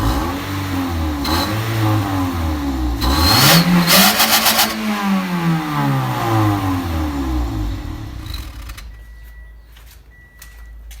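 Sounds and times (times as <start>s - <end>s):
car engine revving down: 0.0s - 9.0s.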